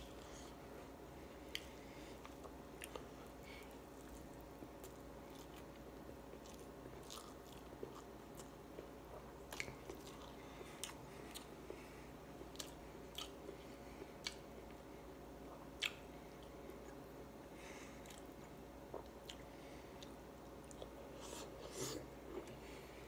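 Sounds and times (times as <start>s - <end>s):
faint steady hum: 0.0s - 23.0s
person chewing food: 1.4s - 14.8s, 15.5s - 17.1s, 17.9s - 22.8s.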